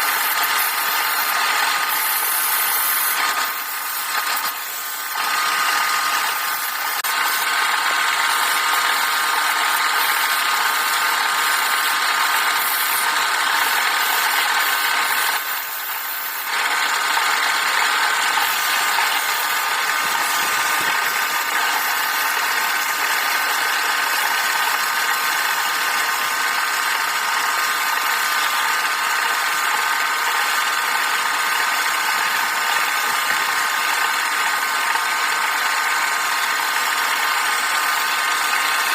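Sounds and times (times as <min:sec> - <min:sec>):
electric lathe whining: 0:00.0 - 0:38.9.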